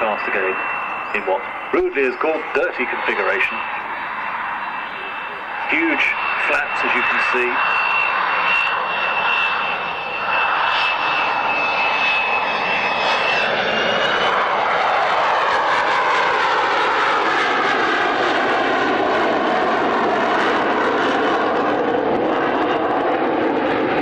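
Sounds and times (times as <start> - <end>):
high-pitched jet whine: 0.0 - 24.0
jet aircraft flying past: 0.0 - 24.0.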